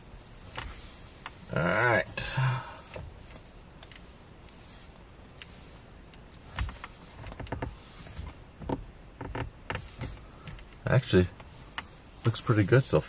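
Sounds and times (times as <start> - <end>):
cloth rubbing on screen: 0.0 - 13.0.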